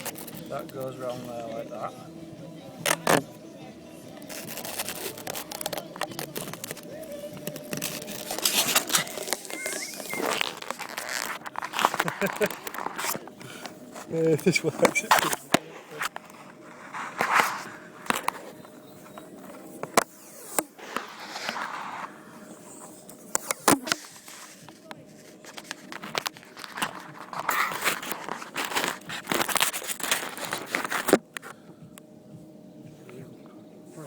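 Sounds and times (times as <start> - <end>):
rustling and crackling: 0.0 - 2.0, 4.2 - 31.4.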